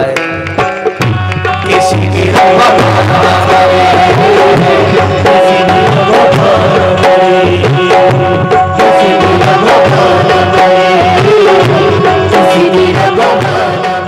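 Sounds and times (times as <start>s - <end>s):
tabla playing rhythm: 0.0s - 14.0s.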